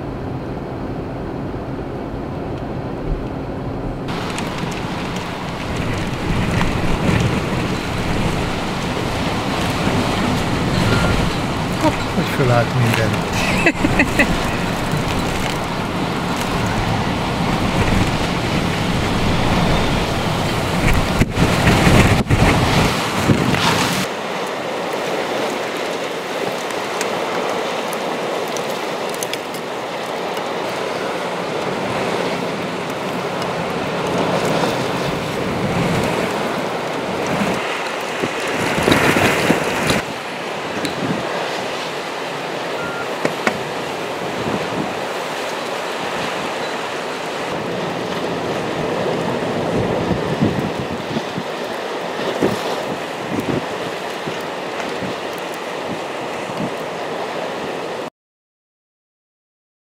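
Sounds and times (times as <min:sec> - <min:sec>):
wind buffeting microphone: 0:00.0 - 0:24.1, 0:30.0 - 0:58.0
waves breaking against seawall: 0:04.1 - 0:58.1.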